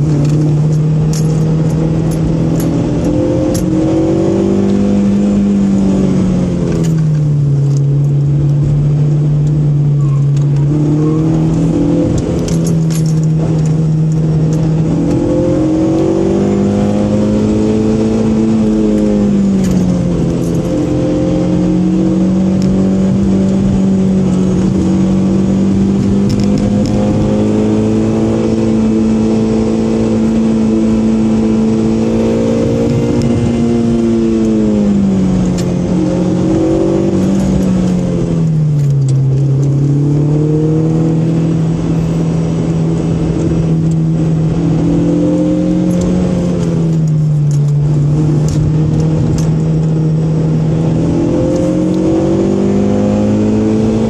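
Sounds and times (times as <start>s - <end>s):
car engine from inside cabin: 0.0s - 54.0s
tyre and road noise: 0.0s - 54.0s.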